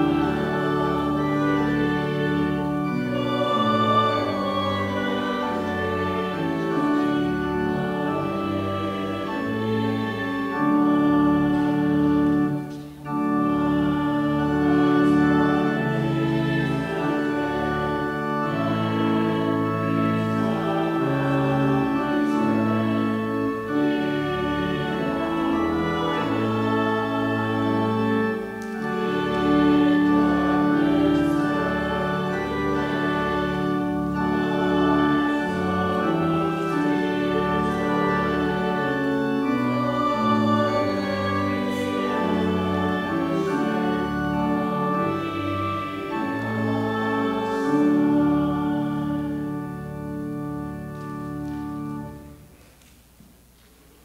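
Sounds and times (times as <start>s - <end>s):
church organ chords: 0.0s - 53.6s.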